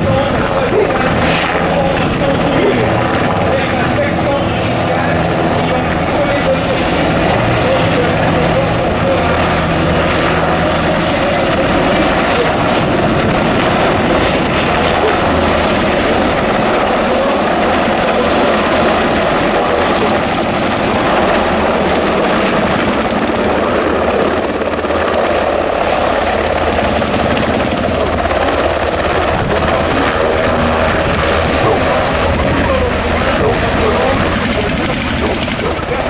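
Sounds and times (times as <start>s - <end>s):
helicopter rotors and engines: 0.0s - 36.0s.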